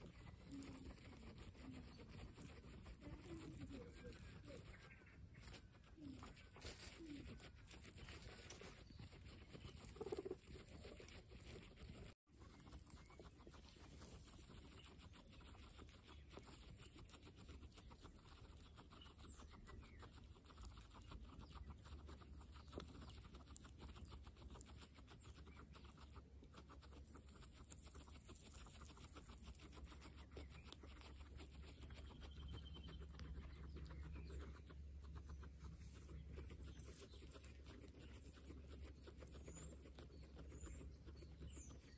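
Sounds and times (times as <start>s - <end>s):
guinea pigs chewing grass: 0.0s - 41.9s.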